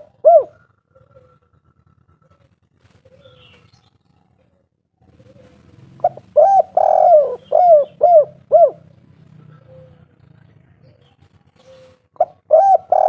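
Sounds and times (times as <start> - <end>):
dove cooing: 0.0 - 3.7, 5.0 - 10.2, 10.9 - 13.0.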